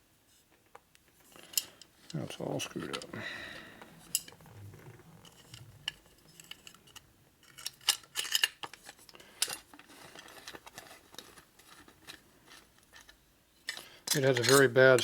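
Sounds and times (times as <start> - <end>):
metal tools clinking and scraping: 1.3 - 15.0.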